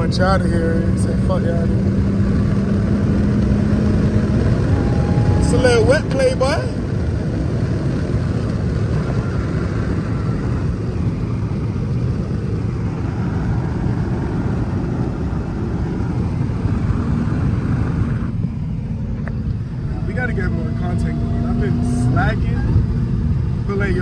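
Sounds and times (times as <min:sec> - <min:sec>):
car engine rumble: 0:00.0 - 0:24.0
road noise: 0:00.0 - 0:24.0.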